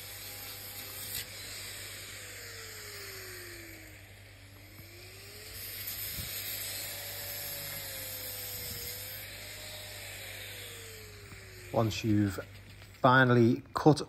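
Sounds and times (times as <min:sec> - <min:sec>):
angle grinder cutting steel: 0:00.0 - 0:13.5.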